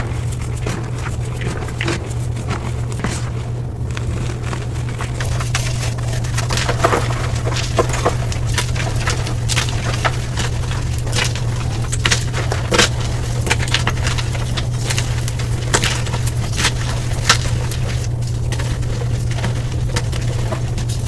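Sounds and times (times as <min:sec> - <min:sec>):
chalk crushing and crumbling: 0:00.0 - 0:21.0
low hum: 0:00.0 - 0:21.0.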